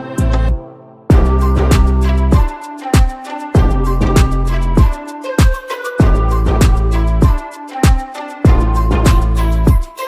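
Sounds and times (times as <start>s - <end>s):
background music with beat: 0.0s - 10.0s
sharp percussive hits: 1.1s - 9.9s.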